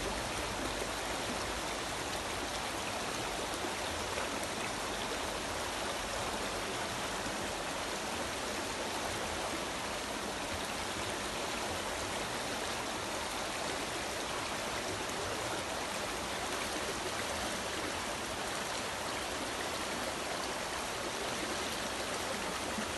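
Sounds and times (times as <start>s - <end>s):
stream water running and splashing: 0.0s - 22.9s.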